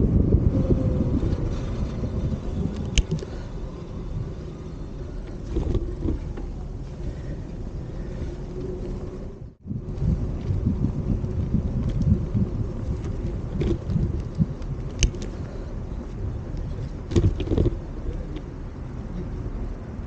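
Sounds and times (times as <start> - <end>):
tyres rumbling on road: 0.0 - 20.0
wind buffeting microphone: 0.0 - 20.0.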